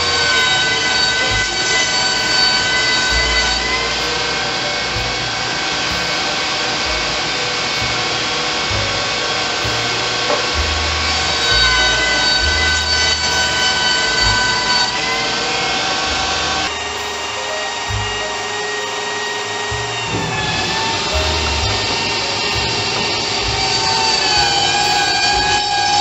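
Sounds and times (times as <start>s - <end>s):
table saw whining: 0.0s - 26.0s.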